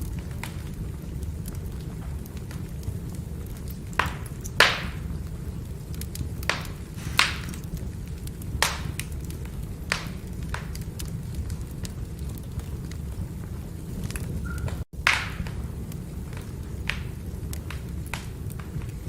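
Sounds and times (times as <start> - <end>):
firewood crackling: 0.0 - 19.0
low rumble of fire: 0.0 - 19.0
sharp pops of burning wood: 0.0 - 19.0.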